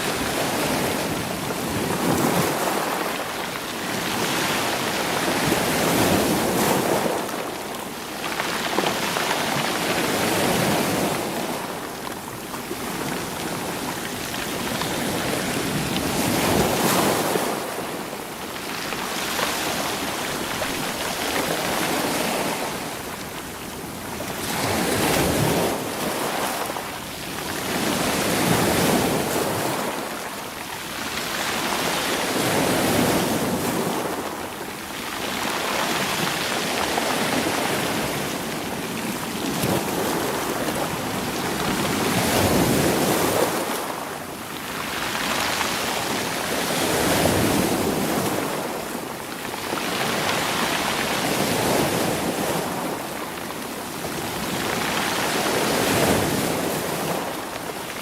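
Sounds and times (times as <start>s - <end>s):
waves washing over stones: 0.0s - 58.0s.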